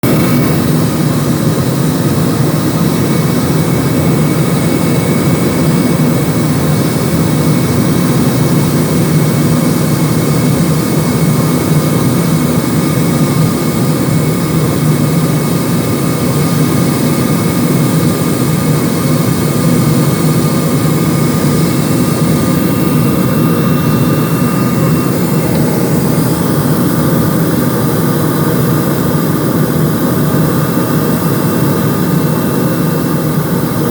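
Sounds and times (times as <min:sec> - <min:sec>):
airplane cabin engine noise: 0:00.0 - 0:33.9
faint steady tones: 0:00.1 - 0:33.9.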